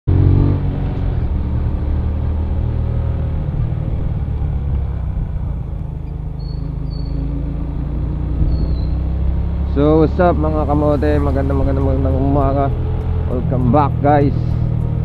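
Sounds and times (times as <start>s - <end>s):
motorcycle engine rumble: 0.1s - 15.0s.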